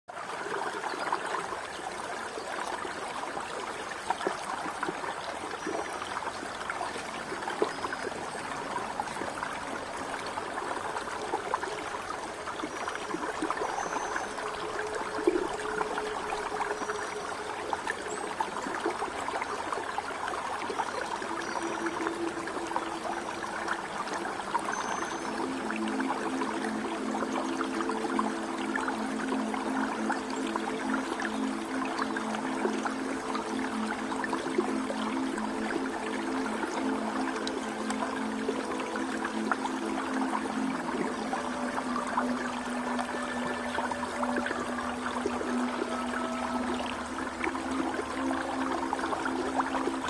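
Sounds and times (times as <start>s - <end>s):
stream babbling over stones: 0.1s - 50.0s
water splashes and gurgles: 0.1s - 50.0s.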